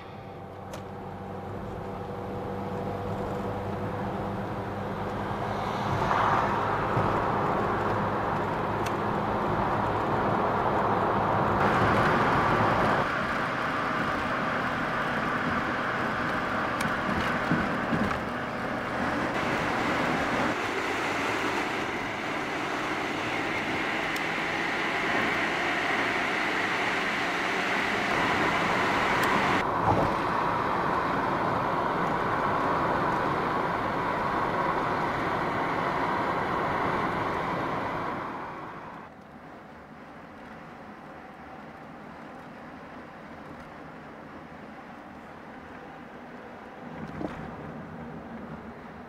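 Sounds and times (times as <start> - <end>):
car engine hum: 0.0 - 49.0
tyre and road noise: 0.0 - 49.0.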